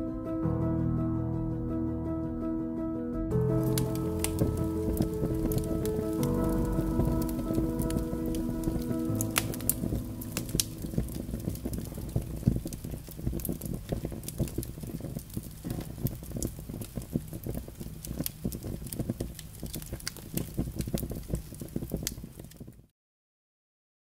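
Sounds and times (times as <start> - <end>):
low rumble: 0.4 - 21.5
firecrackers crackling and popping: 3.4 - 22.9.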